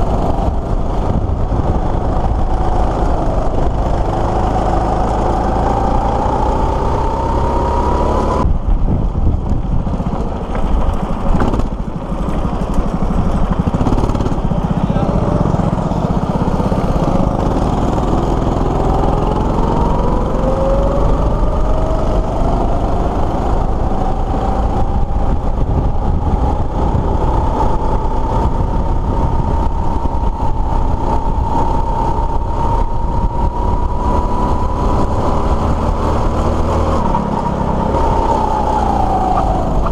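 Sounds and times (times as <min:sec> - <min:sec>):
go-kart engine revving: 0:00.0 - 0:08.5, 0:09.1 - 0:39.9.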